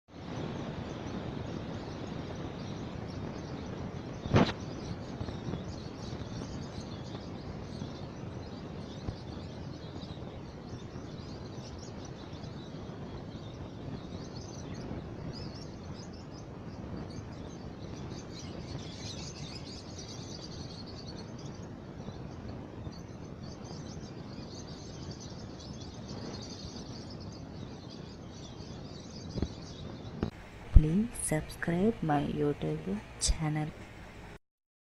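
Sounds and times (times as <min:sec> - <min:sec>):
birds chirping faintly: 0:00.1 - 0:34.4
outdoor background hiss: 0:00.1 - 0:34.4.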